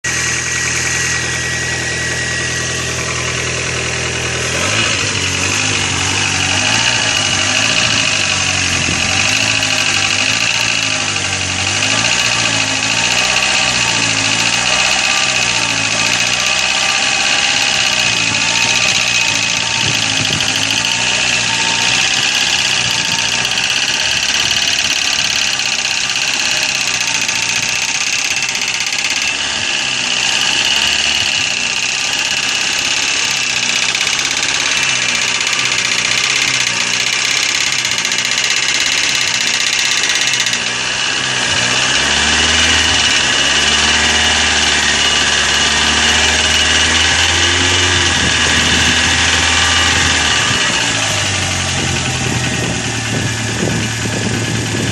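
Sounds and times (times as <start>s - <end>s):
car engine running: 0.0s - 54.9s
deep steady hum: 0.0s - 54.9s
hydraulic lifters ticking: 0.0s - 54.9s.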